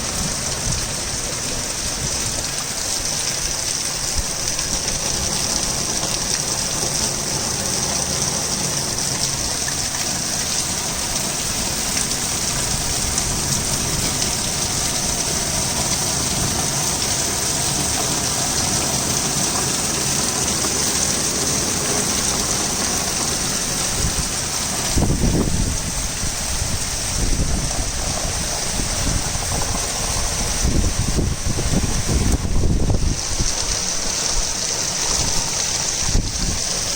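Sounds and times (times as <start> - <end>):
torrential rain: 0.0 - 36.9
low rumbling: 4.0 - 36.8.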